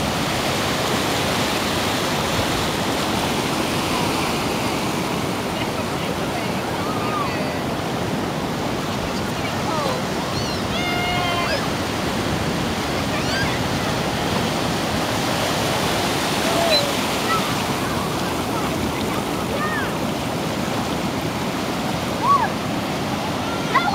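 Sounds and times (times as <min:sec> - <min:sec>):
sea waves breaking: 0:00.0 - 0:23.9.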